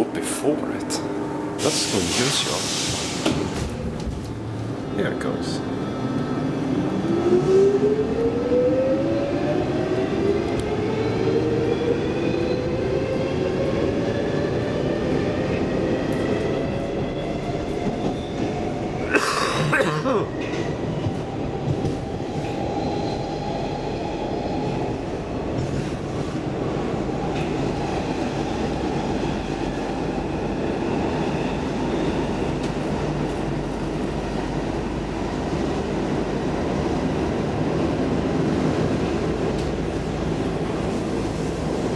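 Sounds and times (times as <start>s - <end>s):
subway motors whining: 0.0s - 41.9s.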